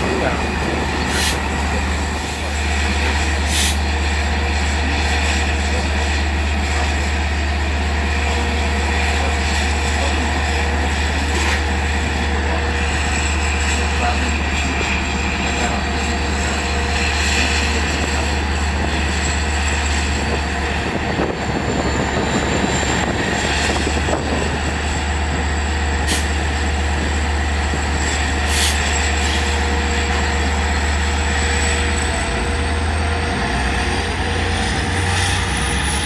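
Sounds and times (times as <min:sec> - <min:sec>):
diesel train engine rumble: 0:00.0 - 0:36.0.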